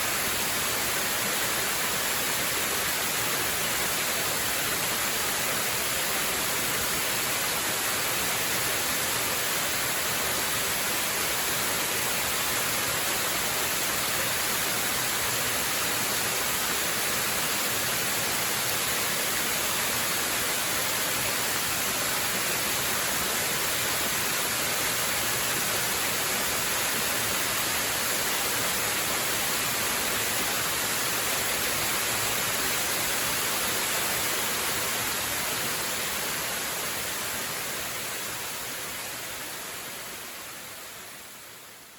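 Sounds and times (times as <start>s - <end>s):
waterfall rushing: 0.0s - 41.8s.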